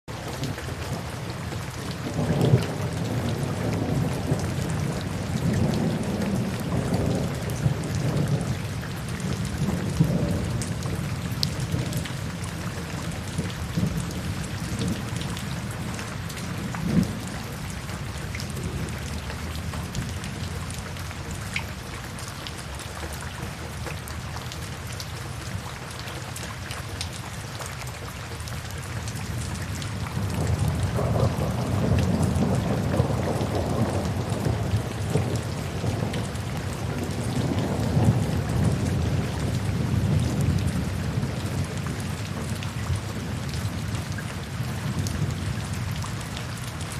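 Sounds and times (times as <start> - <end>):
steady rain falling: 0.0 - 46.9
low rolling thunder: 0.4 - 21.4, 29.1 - 46.9.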